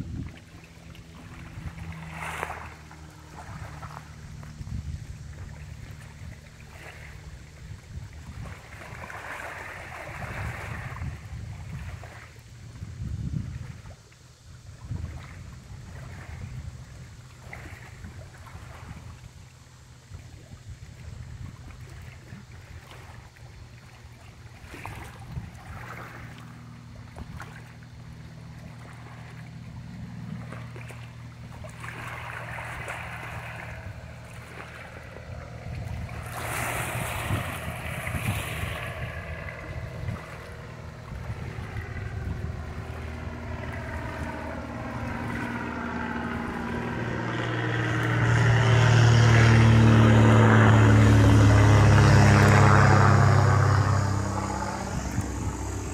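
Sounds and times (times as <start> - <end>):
propeller plane droning: 0.0 - 55.9
wind gusts on microphone: 0.0 - 55.9.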